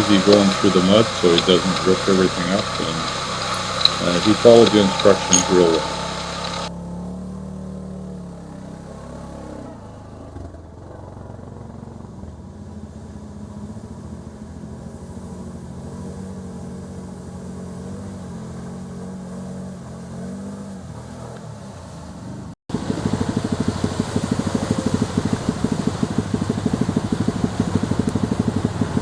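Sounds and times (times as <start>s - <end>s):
utility vehicle engine running: 0.0s - 29.0s.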